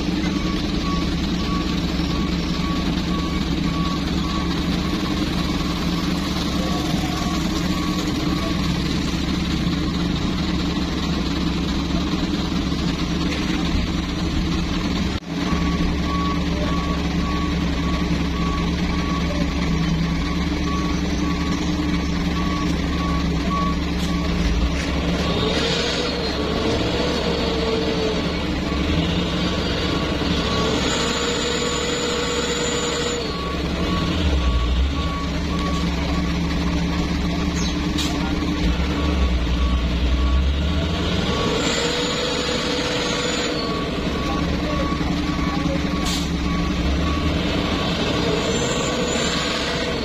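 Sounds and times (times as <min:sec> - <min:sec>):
diesel truck engine running: 0:00.0 - 0:50.0.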